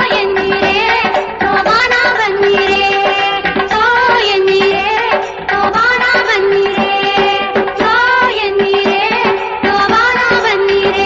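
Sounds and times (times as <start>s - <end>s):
quick percussion beat: 0.0s - 11.0s.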